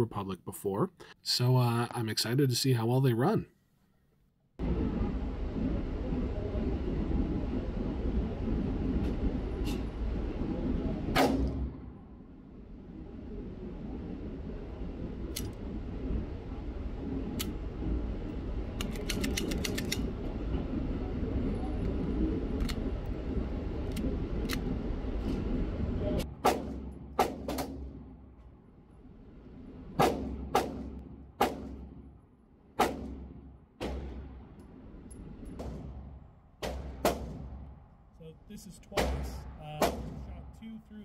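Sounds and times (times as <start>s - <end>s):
steady rumble: 4.5s - 41.0s.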